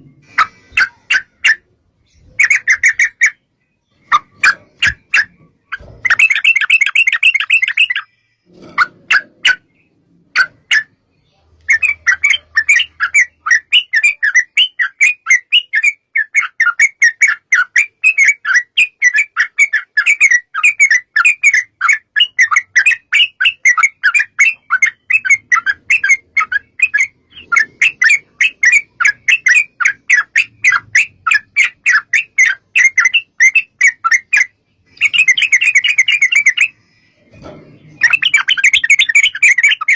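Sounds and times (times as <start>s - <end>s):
bird chattering calls: 0.0s - 11.0s, 11.7s - 39.9s.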